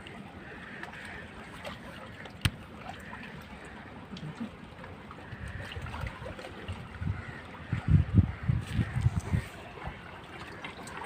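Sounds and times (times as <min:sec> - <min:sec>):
sea water lapping: 0:00.0 - 0:11.0.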